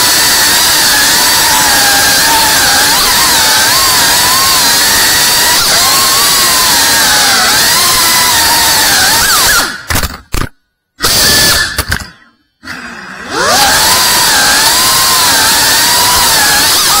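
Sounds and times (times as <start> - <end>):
drone motors whining: 0.0 - 9.9, 11.0 - 17.0.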